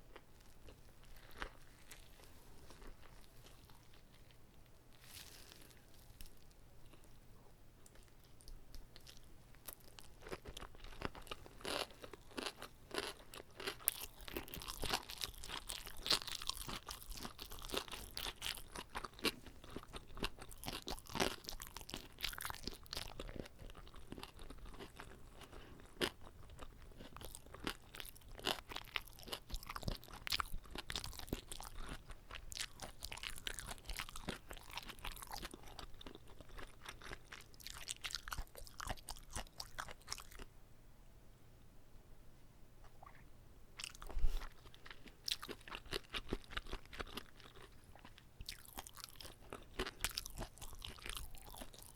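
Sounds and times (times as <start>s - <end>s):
chewing with crisp crunches: 0.0s - 7.2s, 7.8s - 40.5s, 43.8s - 51.9s.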